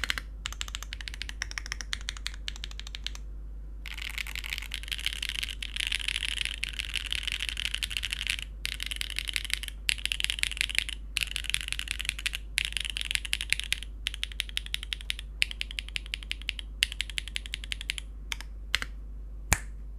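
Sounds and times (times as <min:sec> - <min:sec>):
mechanical keyboard clicking: 0:00.0 - 0:03.2, 0:03.9 - 0:18.9.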